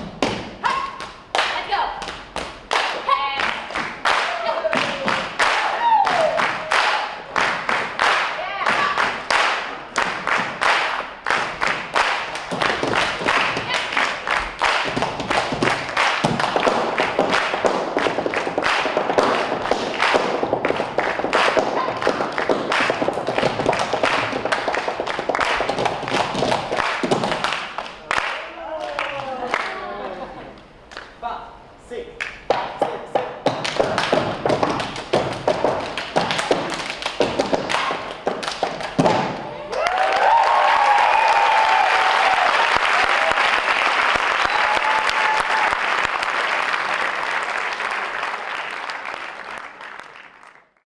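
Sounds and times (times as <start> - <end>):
tap shoes on stage floor: 0.0 - 28.2, 32.4 - 48.0.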